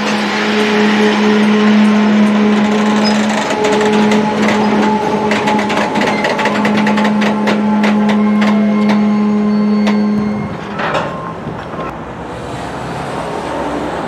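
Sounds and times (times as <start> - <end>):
train wheels clanking over rails: 0.0 - 11.9.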